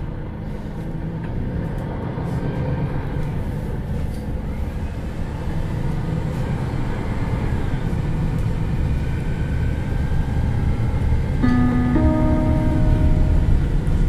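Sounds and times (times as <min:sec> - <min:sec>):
bus engine and drive noise: 0:00.0 - 0:14.0.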